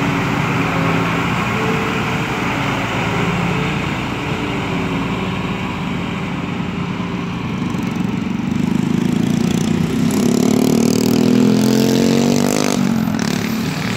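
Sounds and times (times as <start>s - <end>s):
tractor engine running: 0.0s - 11.7s
dump truck diesel engine: 0.0s - 13.9s.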